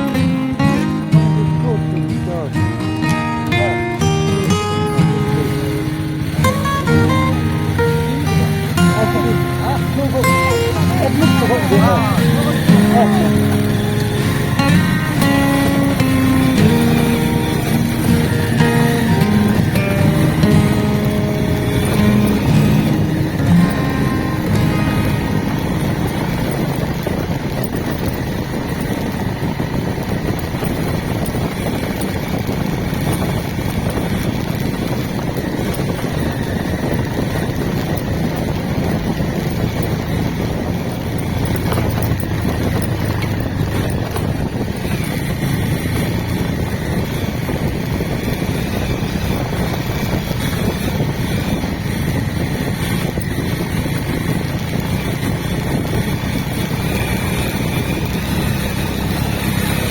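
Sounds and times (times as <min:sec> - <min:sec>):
knocks and rattles: 0:00.0 - 0:59.9
vehicle engine and road rumble: 0:00.0 - 0:59.9.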